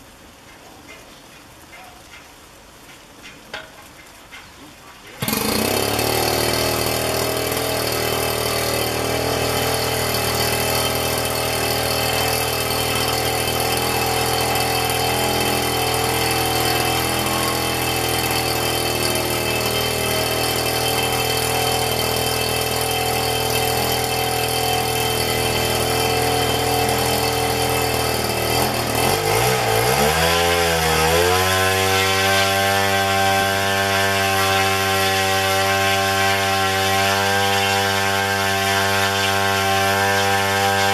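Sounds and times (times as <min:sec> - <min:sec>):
two-stroke engine at high throttle: 0:05.2 - 0:40.9.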